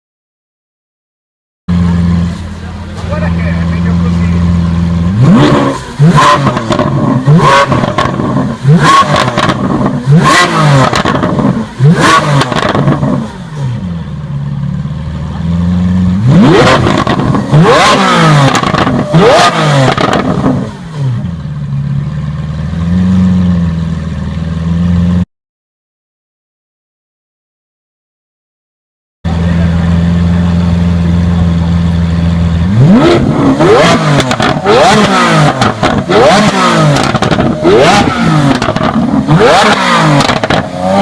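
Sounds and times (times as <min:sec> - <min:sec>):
car engine idling: 0:01.7 - 0:25.2, 0:29.3 - 0:41.0
car engine revving: 0:01.7 - 0:25.2, 0:29.3 - 0:41.0.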